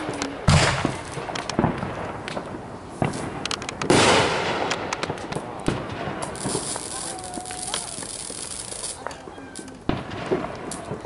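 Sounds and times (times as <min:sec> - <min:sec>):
firework crackling pops: 0:00.0 - 0:11.0
fireworks bangs: 0:00.0 - 0:11.0.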